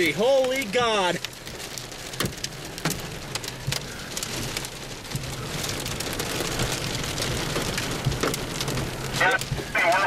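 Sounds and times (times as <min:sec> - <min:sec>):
heavy rain on vehicle roof: 0:00.0 - 0:10.0.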